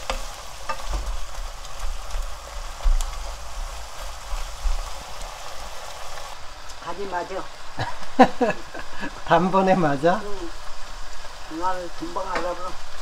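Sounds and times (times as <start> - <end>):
squid sizzling in a pan: 0.0 - 13.0.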